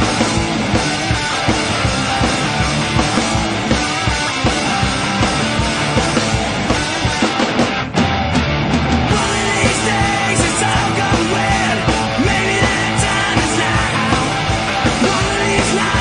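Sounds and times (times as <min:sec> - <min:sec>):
drum kit beat: 0:00.0 - 0:16.0
rock music: 0:00.0 - 0:16.0.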